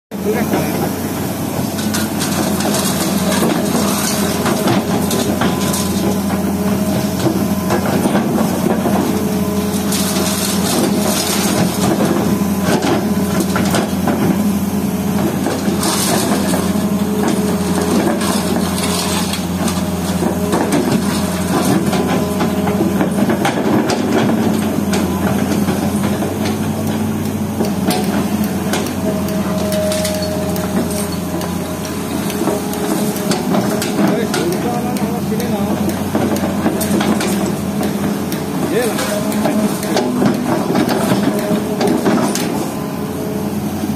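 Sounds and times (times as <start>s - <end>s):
diesel engine running: 0.1s - 43.9s.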